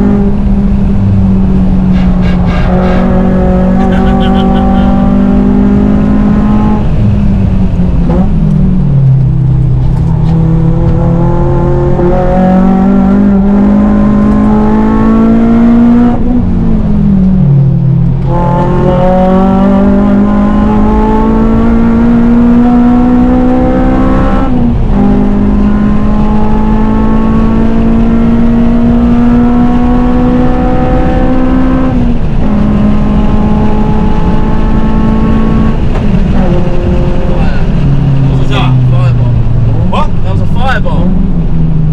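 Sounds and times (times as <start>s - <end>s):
car engine revving through gears: 0.0s - 41.9s.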